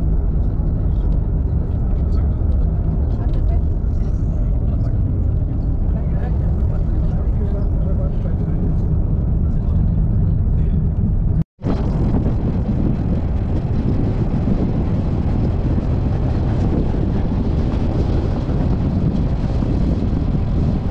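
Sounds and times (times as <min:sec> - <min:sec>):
steady rushing rumbling noise: 0:00.0 - 0:20.9
wind buffeting microphone: 0:00.0 - 0:20.9.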